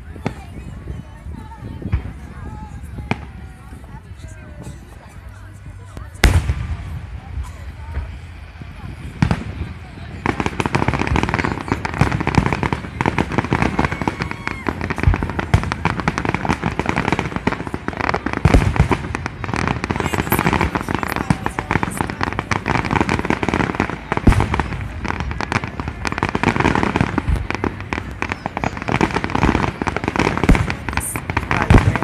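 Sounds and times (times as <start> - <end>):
fireworks bangs and crackling: 0.0 - 32.0
heavy firework booms: 6.2 - 32.0.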